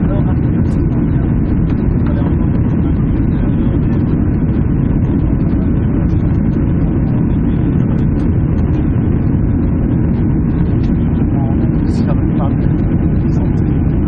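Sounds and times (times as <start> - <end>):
jet engines and airflow rumble: 0.0 - 14.0.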